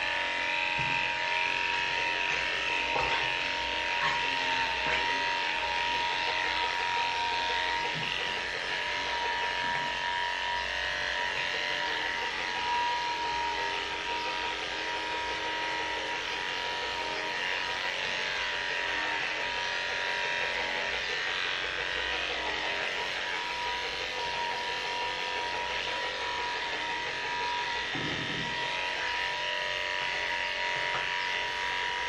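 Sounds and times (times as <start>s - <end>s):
electric clippers whining: 0.0s - 32.0s.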